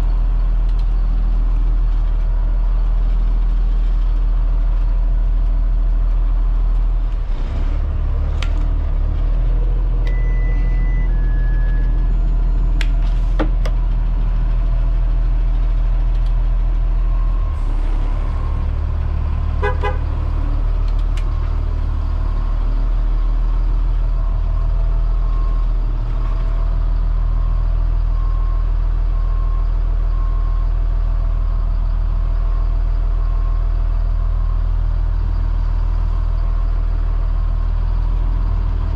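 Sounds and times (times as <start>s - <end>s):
diesel bus engine running: 0.0s - 38.9s.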